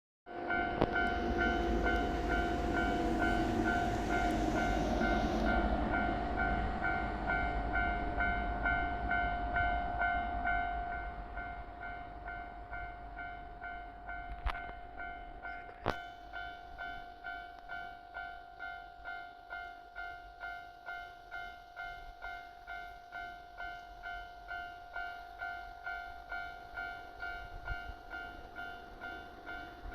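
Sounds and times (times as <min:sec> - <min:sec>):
freight train rumbling past: 0:00.3 - 0:18.6, 0:20.0 - 0:29.9
level-crossing warning bell ringing: 0:00.3 - 0:29.9.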